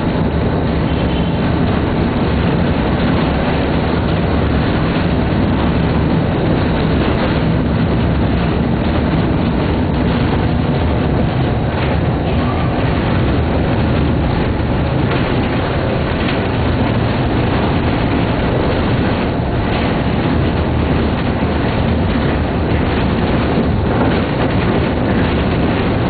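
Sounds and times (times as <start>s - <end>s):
tram wheels rumbling on rails: 0.0s - 26.0s.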